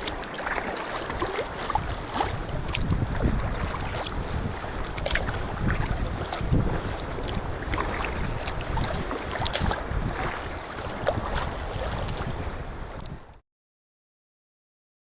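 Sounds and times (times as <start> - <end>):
small splashes: 0.0 - 12.3
water sloshing around kayak: 0.0 - 13.4
wind buffeting microphone: 0.0 - 13.4.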